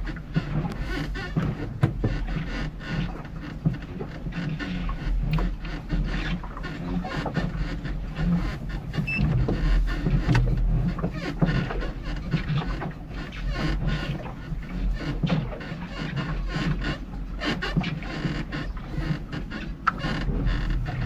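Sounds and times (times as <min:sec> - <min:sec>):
electric boat motor rumbling: 0:00.0 - 0:21.0.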